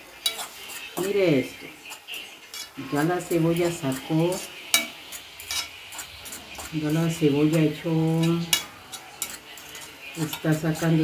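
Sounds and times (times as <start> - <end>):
spoon scraping metal pan: 0.0 - 11.0
vegetables sizzling: 0.0 - 11.0.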